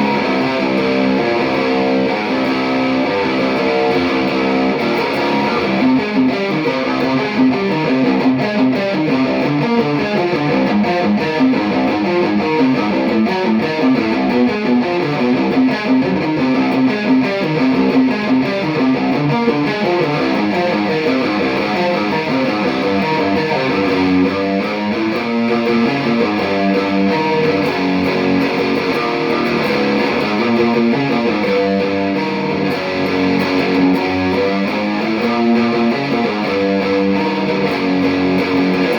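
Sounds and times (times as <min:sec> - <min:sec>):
electric guitar quick picked notes: 0:00.0 - 0:38.9.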